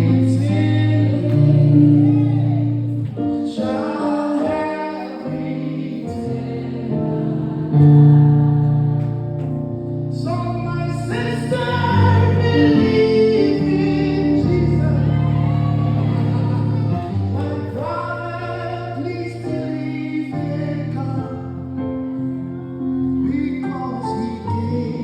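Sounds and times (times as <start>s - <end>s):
gospel group singing: 0.0s - 25.0s.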